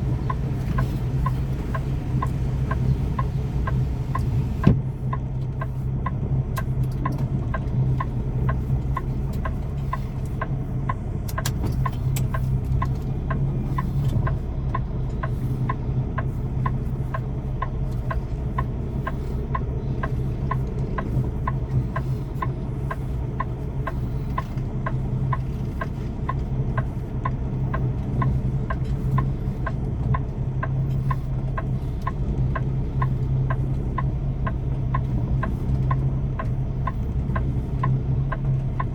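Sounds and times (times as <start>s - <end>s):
diesel truck engine running: 0.0s - 38.9s
light ticking: 0.0s - 38.9s.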